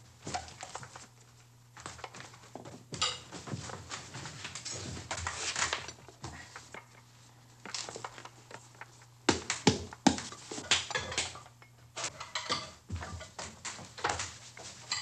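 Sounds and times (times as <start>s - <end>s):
kitchen rustling and scraping: 0.0s - 15.0s
low steady hum: 0.0s - 15.0s.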